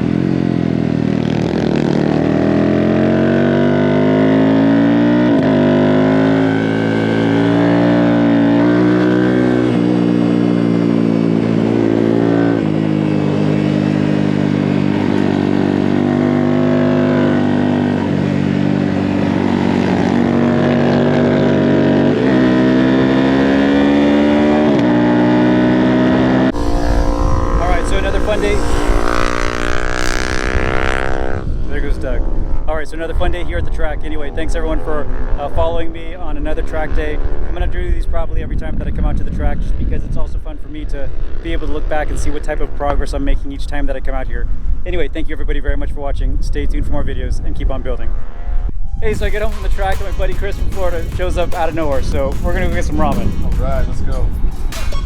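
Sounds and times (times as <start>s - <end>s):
minibike engine at full throttle: 0.0s - 44.9s.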